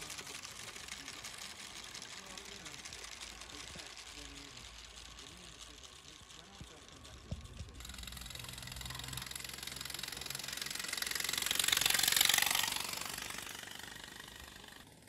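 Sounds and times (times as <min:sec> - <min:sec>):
miniature train rattling over bridge: 0:00.0 - 0:15.0.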